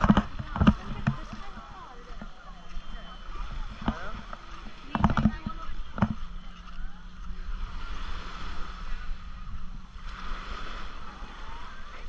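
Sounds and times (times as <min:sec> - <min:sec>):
small waves washing on shore: 0:00.0 - 0:12.0
wind rumbling on microphone: 0:00.0 - 0:12.0.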